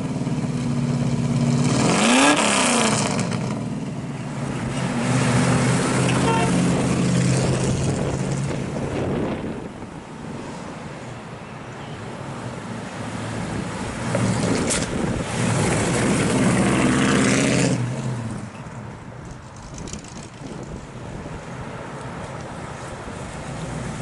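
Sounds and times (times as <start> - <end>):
car engine and exhaust: 0.0 - 24.0.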